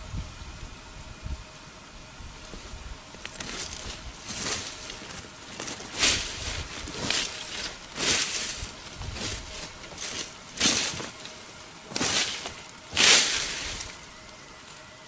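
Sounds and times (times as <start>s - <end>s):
footsteps crunching through dry leaves: 2.3s - 15.0s.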